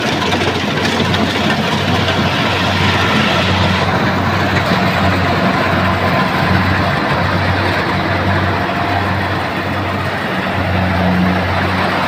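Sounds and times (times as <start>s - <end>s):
harvester engine running: 0.0s - 12.0s
loud mechanical din: 0.0s - 12.0s.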